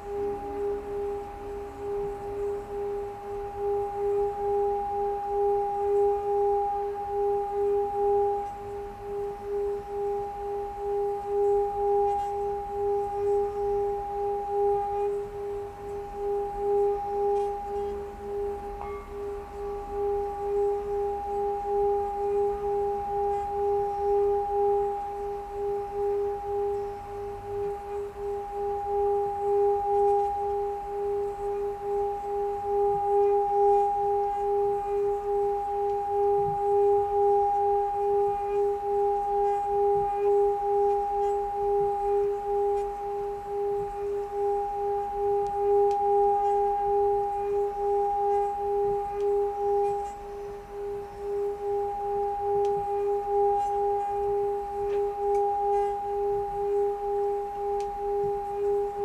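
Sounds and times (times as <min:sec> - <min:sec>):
singing bowl ringing: 0:00.0 - 0:59.0.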